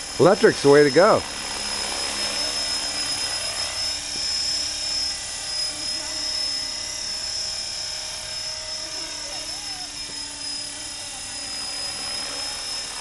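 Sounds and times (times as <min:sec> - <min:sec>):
rc helicopter high-pitched whine: 0:00.0 - 0:13.0.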